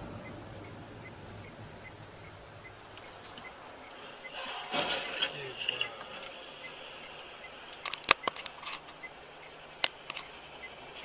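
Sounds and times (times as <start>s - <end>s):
car cabin noise: 0.0s - 11.0s.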